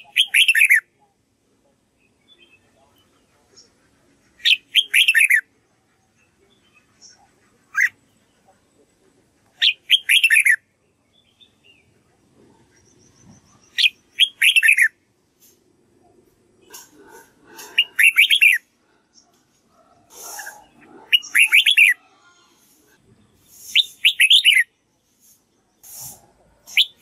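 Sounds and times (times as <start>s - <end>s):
bird singing: 0.0s - 3.8s, 4.4s - 15.0s, 16.0s - 25.9s, 26.6s - 27.0s.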